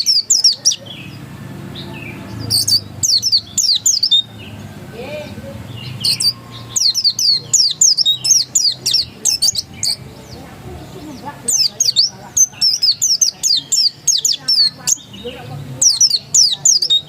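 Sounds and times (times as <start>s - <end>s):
bird singing falling notes: 0.0s - 17.0s.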